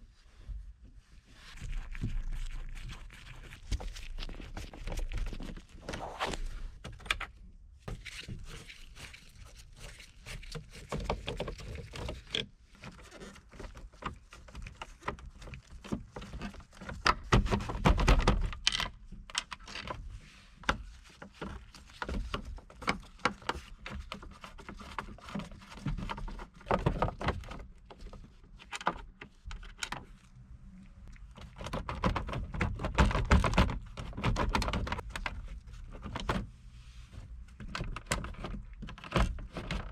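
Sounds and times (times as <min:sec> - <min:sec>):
hands clicking and rustling parts: 0:01.6 - 0:30.3, 0:31.0 - 0:36.5, 0:37.2 - 0:39.9.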